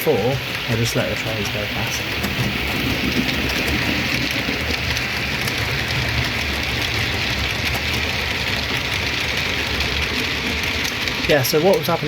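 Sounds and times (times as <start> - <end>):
locomotive motors humming: 0.0 - 12.0
model train wheels rattling: 0.0 - 12.0.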